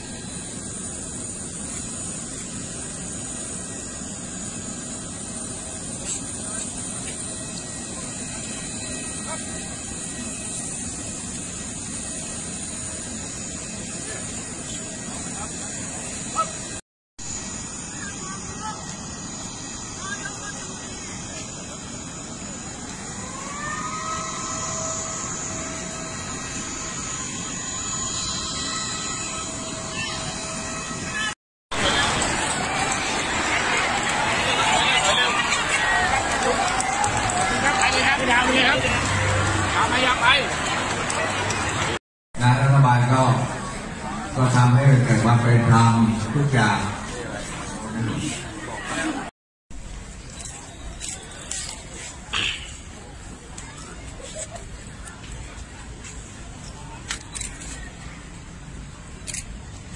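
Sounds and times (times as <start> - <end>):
faint high whine: 0.0 - 59.9
jet airliner engine noise: 0.0 - 59.9.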